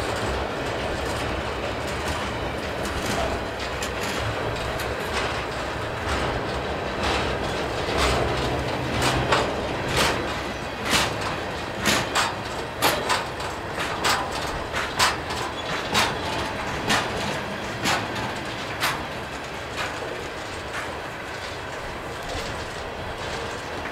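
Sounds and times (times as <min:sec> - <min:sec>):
train rumble: 0:00.0 - 0:23.9
train wheels clacking: 0:00.0 - 0:23.9.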